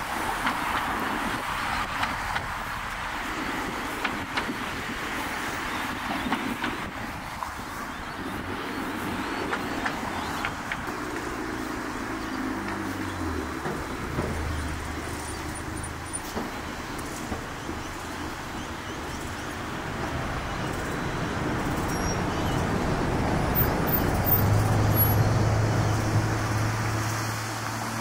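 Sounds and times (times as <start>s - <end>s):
cars passing: 0.0s - 28.0s
low engine hum: 0.0s - 28.0s.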